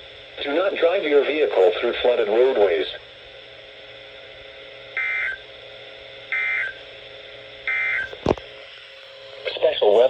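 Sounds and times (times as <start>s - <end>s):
radio hum and hiss: 0.0s - 10.0s.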